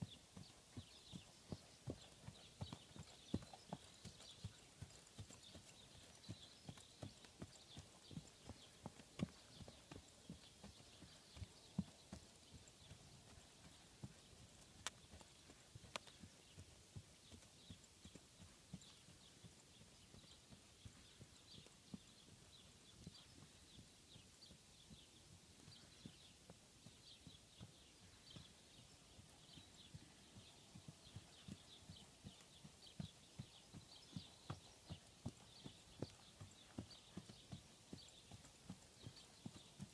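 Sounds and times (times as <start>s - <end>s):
horse hoofbeats on grass: 0.0s - 39.9s.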